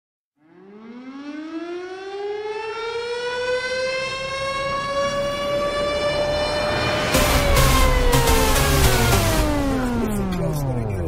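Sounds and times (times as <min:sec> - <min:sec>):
air-raid siren winding up: 0:00.5 - 0:10.3.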